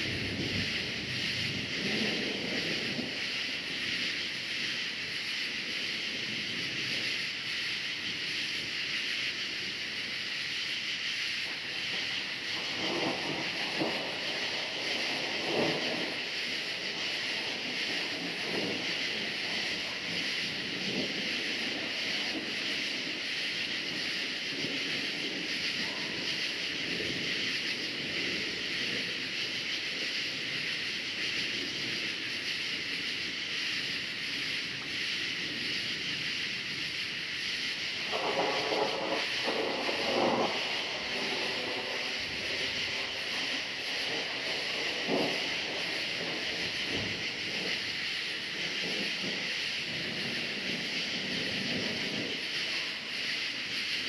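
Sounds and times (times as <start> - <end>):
distant thunder rumbling: 0.0 - 7.2, 11.4 - 32.5, 34.8 - 54.0
crickets chirping: 0.0 - 54.0.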